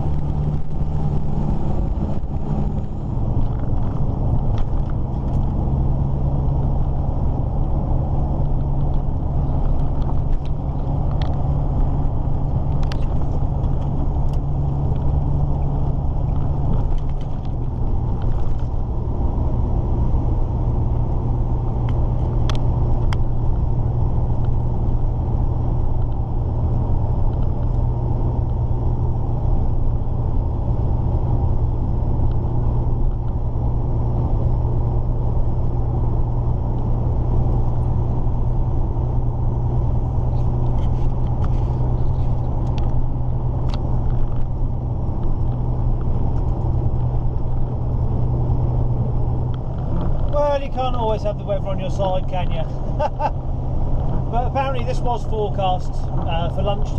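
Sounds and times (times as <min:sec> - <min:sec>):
truck diesel engine drone: 0:00.0 - 0:56.9.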